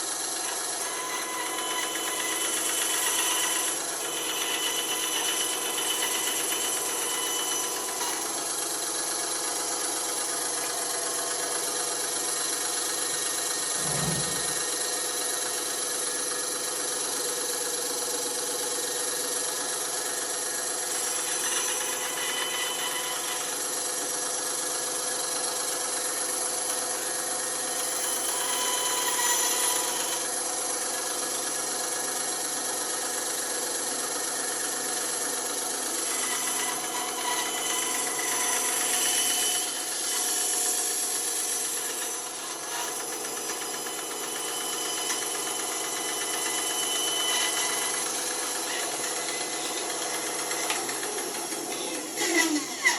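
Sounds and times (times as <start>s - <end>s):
electric band saw running: 0.0s - 52.9s.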